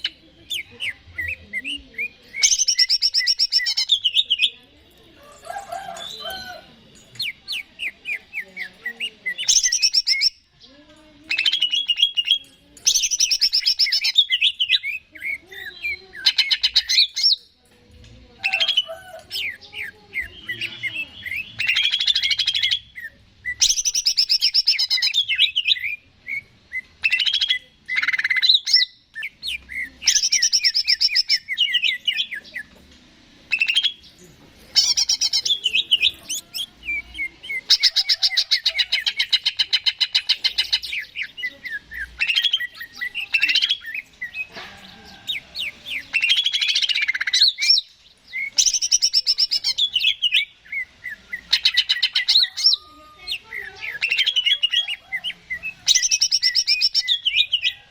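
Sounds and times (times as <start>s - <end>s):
bird chattering and trilling: 0.0s - 17.6s, 18.2s - 32.8s, 33.4s - 57.9s.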